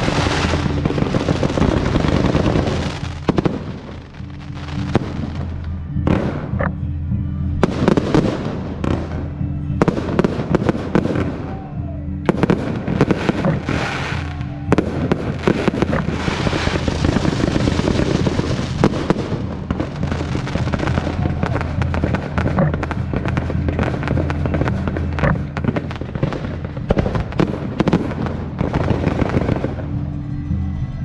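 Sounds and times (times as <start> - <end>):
fireworks crackling: 0.0 - 6.6, 7.6 - 30.2
fireworks bangs: 0.0 - 6.8, 7.6 - 30.0
music: 0.0 - 31.0.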